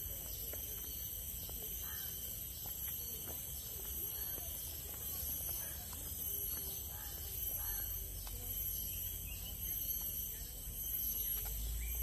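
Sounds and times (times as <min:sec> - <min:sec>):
faint voices: 0:00.0 - 0:11.8
high-pitched insect drone: 0:00.0 - 0:12.0.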